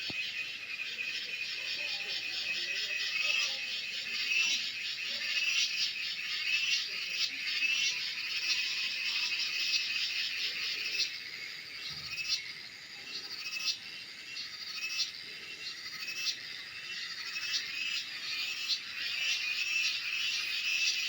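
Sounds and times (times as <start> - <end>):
cicadas chorus: 0.0 - 21.0.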